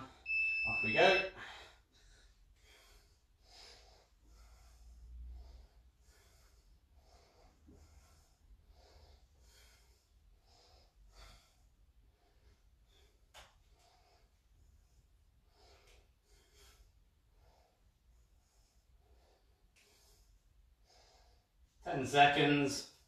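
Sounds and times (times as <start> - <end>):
man breathing rhythmically: 1.3 - 21.8.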